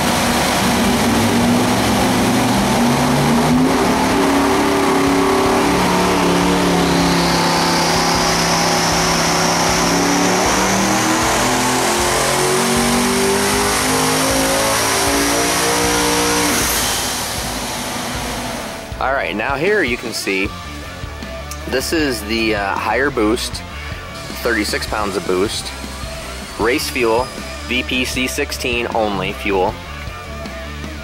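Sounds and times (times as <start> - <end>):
engine running hard on dyno: 0.0 - 31.0
turbocharger whine: 0.0 - 31.0.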